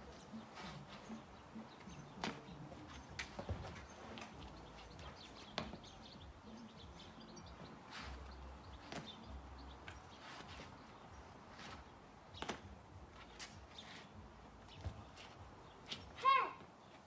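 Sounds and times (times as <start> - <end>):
quick steps on concrete: 0.3 - 6.8, 7.5 - 17.0.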